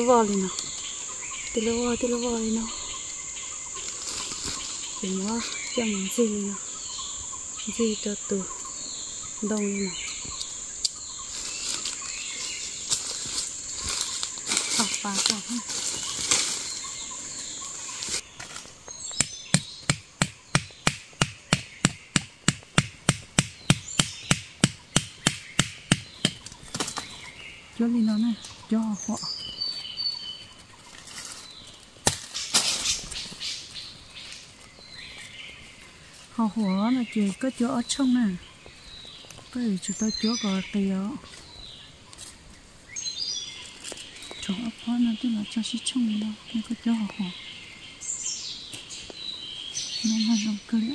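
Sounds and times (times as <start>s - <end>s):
dry leaves rustling: 0.0s - 20.5s, 25.8s - 50.9s
birds chirping: 0.0s - 50.9s
insects droning: 0.0s - 50.9s
low falling calls: 0.0s - 50.9s.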